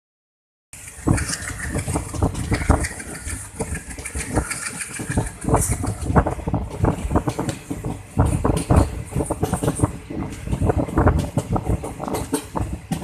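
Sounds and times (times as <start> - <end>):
knocks and clatter: 0.8 - 13.0
train running: 0.8 - 13.0.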